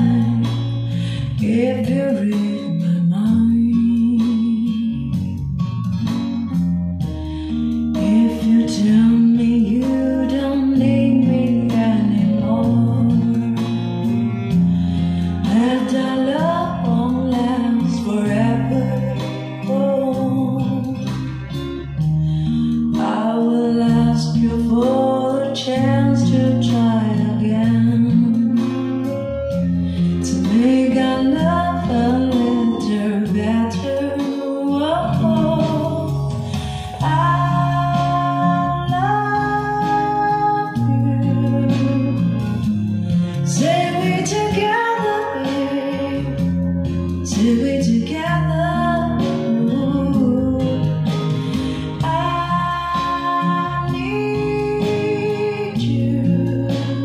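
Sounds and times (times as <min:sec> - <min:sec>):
song over loudspeakers: 0:07.0 - 0:57.0.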